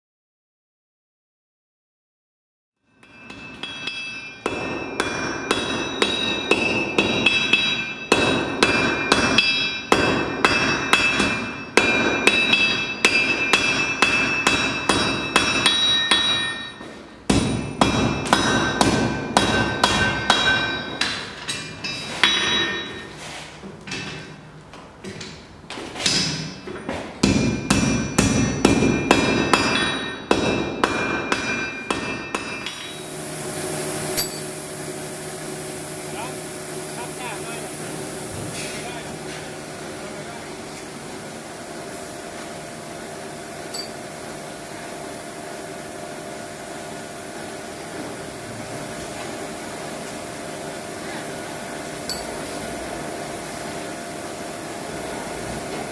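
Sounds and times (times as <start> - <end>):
forging hammer striking steel: 2.9 - 23.1, 26.0 - 55.9
metallic ringing: 2.9 - 23.2, 27.2 - 55.9.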